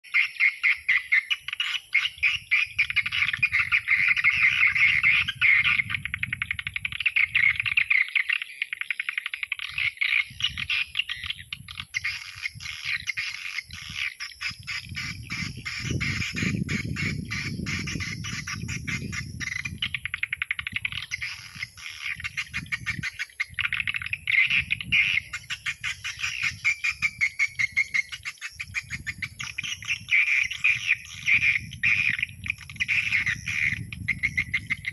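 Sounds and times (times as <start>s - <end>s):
recorded bird chirps over loudspeakers: 0.0s - 34.9s.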